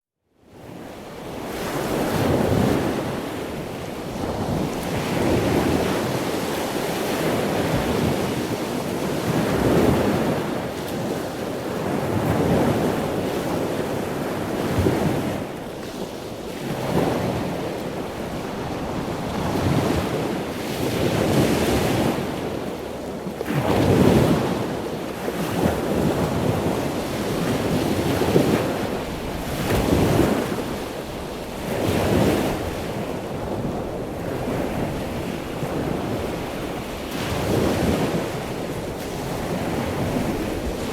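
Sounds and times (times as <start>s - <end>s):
ocean waves breaking: 0.7s - 40.9s.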